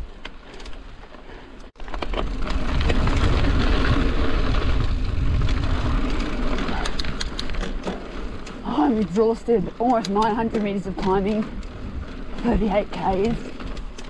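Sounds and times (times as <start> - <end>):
bike clicks and rattles: 0.0 - 14.0
tyres rolling over dirt: 0.0 - 14.0
wind rumbling on microphone: 1.8 - 14.0.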